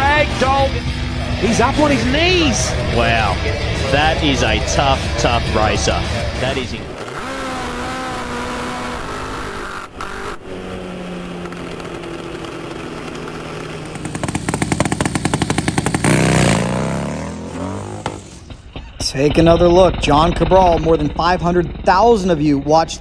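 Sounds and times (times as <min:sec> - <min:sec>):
motorcycle engine at full throttle: 0:00.0 - 0:23.0
rapid pulsing motorcycle engine revving: 0:00.0 - 0:23.0.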